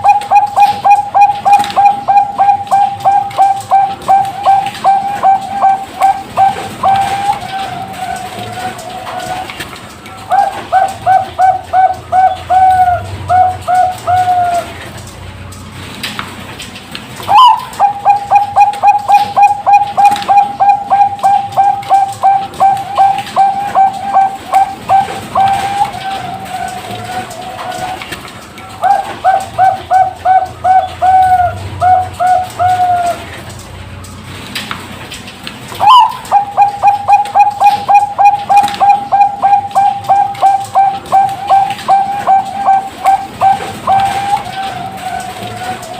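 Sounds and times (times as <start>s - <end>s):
dove cooing: 0.0s - 15.1s, 17.2s - 33.6s, 35.7s - 45.9s.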